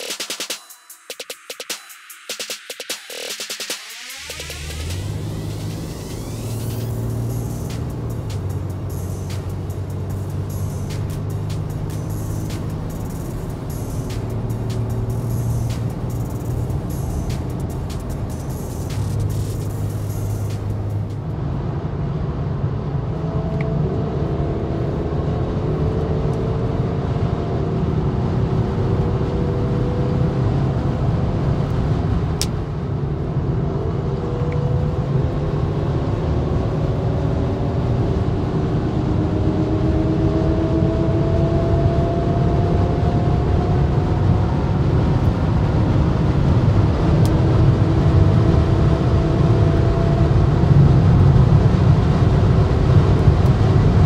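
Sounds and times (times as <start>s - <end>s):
diesel engine hum: 4.1s - 54.0s
road and tyre rumble: 4.2s - 54.0s.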